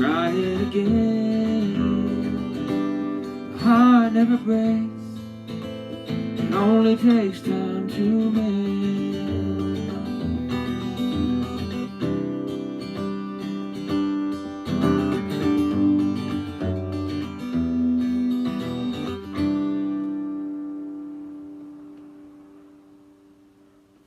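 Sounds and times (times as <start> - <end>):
guitar chords strummed: 0.0 - 24.0.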